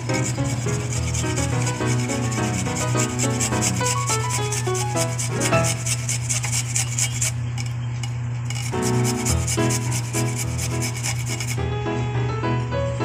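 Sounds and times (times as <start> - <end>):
garlic scraping on metal grater: 0.0 - 11.6.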